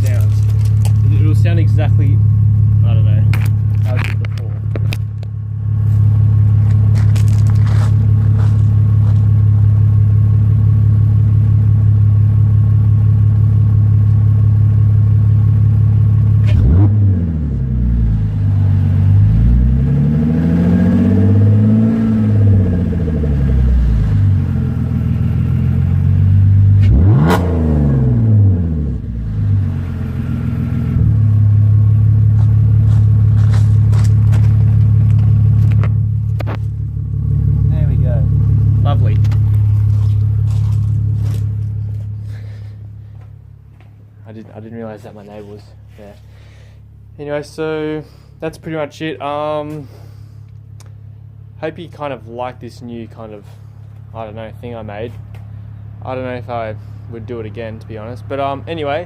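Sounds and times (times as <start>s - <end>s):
car engine idling and revving: 0.0s - 48.6s, 49.2s - 59.0s.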